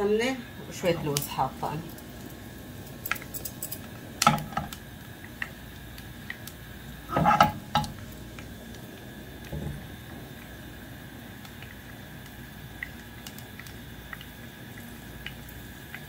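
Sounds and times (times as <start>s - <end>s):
almonds frying crackling: 0.0s - 16.0s.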